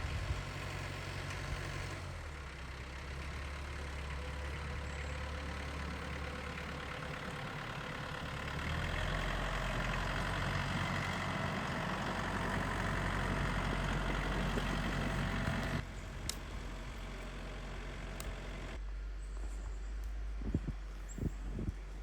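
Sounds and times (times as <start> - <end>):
snowblower engine running: 0.0 - 18.8.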